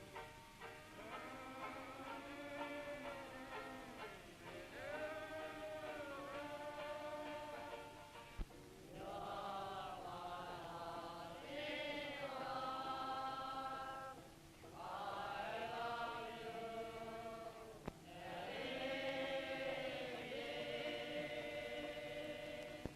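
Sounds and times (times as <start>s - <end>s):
men singing together unaccompanied: 1.0s - 8.2s, 8.8s - 22.9s.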